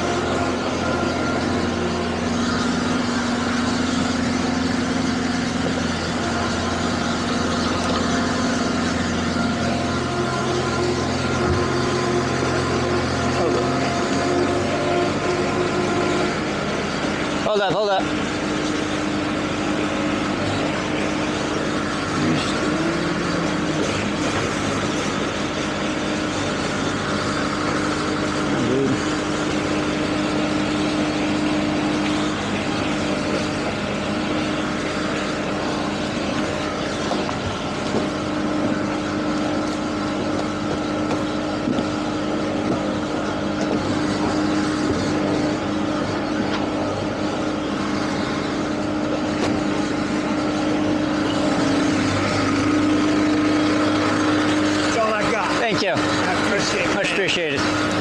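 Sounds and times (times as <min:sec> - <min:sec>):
motorboat engine drone: 0:00.0 - 0:58.0
wind: 0:00.0 - 0:58.0.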